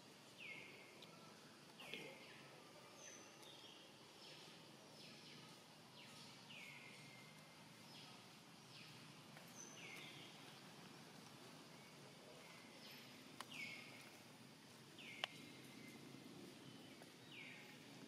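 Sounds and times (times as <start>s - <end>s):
low outdoor background: 0.0s - 18.0s.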